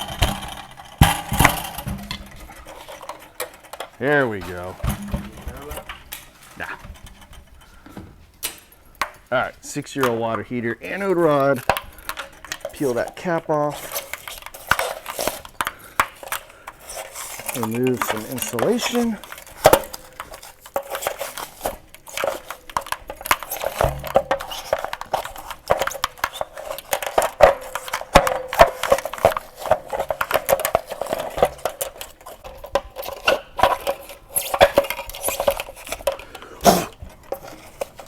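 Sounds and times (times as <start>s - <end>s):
insulation scratching and rustling: 0.0s - 8.4s, 9.3s - 38.0s.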